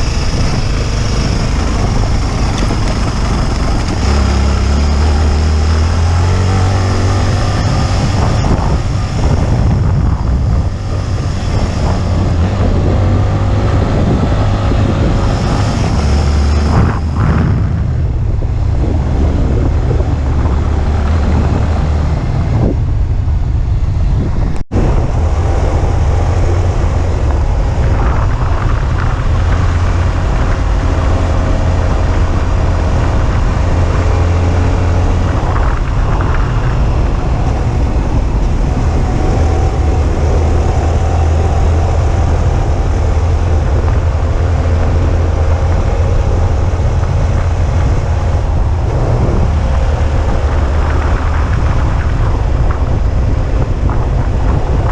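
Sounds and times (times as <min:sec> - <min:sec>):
motorcycle engine rumble: 0:00.0 - 0:54.9
wind noise on microphone: 0:00.0 - 0:54.9.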